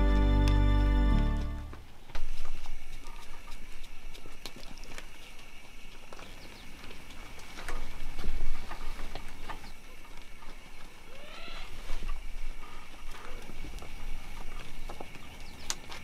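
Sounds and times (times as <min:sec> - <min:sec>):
hooves on stony ground: 0:00.0 - 0:16.0.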